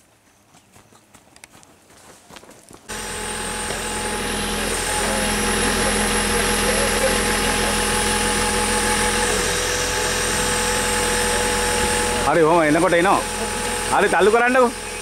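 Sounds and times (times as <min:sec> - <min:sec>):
diesel engine idling: 0:02.9 - 0:15.0.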